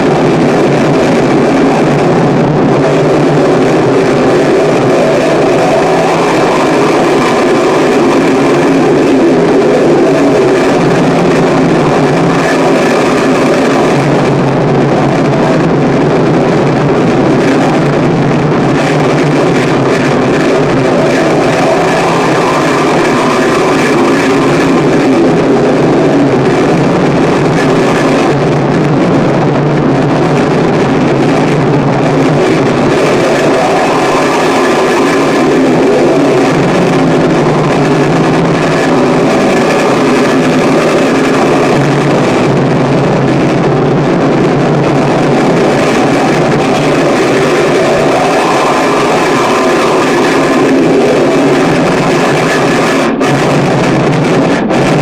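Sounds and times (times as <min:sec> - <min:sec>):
harsh noise music: 0:00.0 - 0:55.0.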